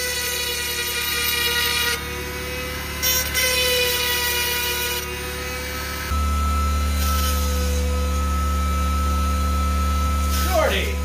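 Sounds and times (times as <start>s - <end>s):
rotary tool whining: 0.0s - 11.0s.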